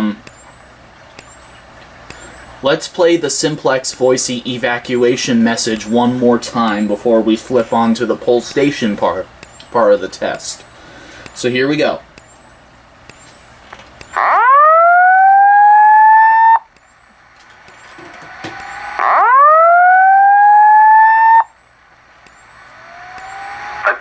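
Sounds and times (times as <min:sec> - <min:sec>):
fire alarm whoop tone: 0:00.0 - 0:24.0.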